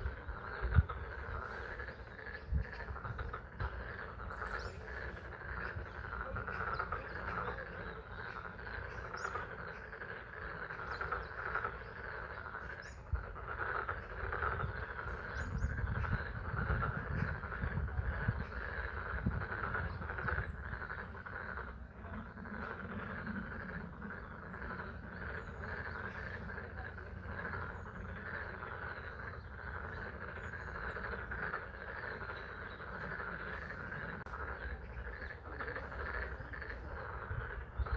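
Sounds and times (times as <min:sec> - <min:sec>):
frogs calling: 0:00.0 - 0:37.9.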